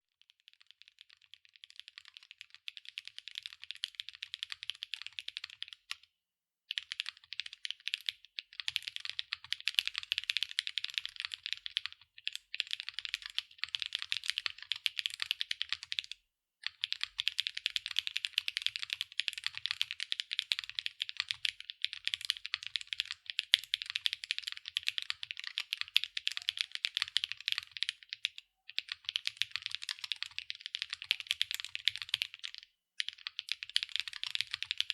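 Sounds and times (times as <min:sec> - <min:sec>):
mechanical keyboard typing: 0:00.5 - 0:06.0, 0:06.7 - 0:34.9.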